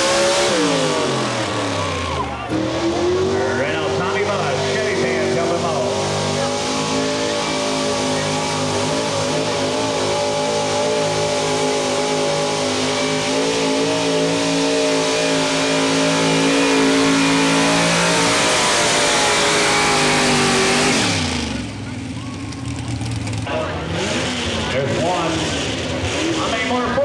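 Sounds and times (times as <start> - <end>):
truck engine at high revs: 0.0 - 27.0.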